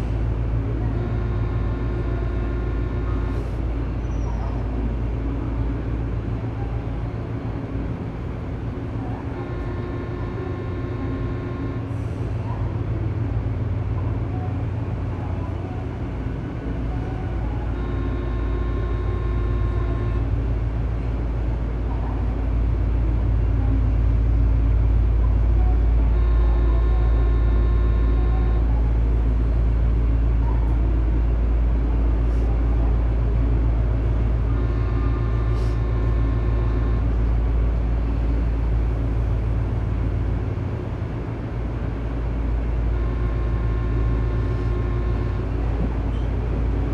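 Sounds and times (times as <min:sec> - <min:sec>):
train low drone: 0:00.0 - 0:46.9.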